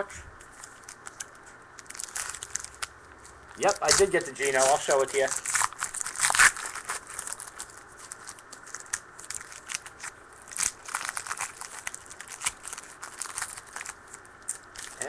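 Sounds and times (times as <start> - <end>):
card wrappers crinkling: 0.4 - 15.0.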